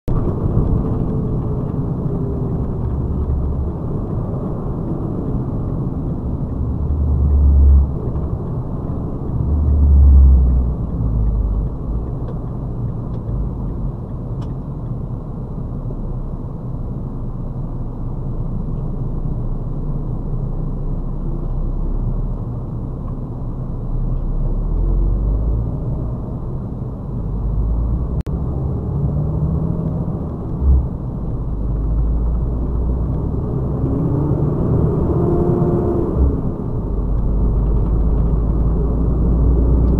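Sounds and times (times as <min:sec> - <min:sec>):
muffled truck engine rumble: 0:00.1 - 0:39.9.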